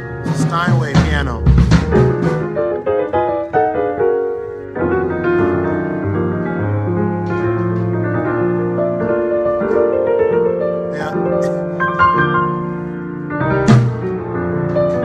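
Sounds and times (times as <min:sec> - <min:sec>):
piano playing chords: 0:00.0 - 0:15.0.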